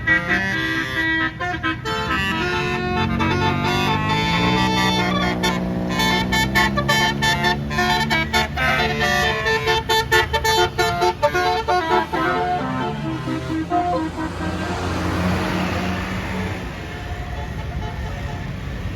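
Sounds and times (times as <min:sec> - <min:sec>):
low rumble of bus: 0:00.0 - 0:18.9
multi-trumpet air horn melody: 0:00.0 - 0:18.9.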